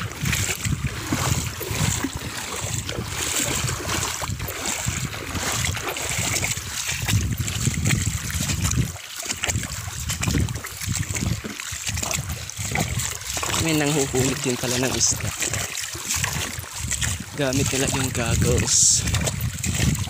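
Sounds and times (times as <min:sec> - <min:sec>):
stream rushing: 0:00.0 - 0:20.0
water splashing around wading legs: 0:00.0 - 0:20.0.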